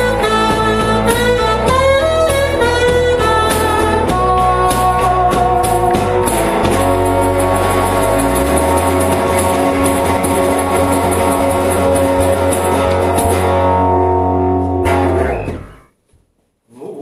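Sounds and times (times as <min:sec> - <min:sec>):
punk rock guitar bass and cajon: 0:00.0 - 0:15.9.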